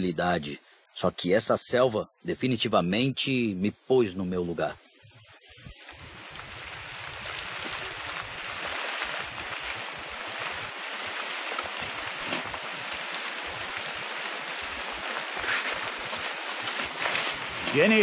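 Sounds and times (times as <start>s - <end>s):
rain downpour hissing: 2.6s - 18.0s.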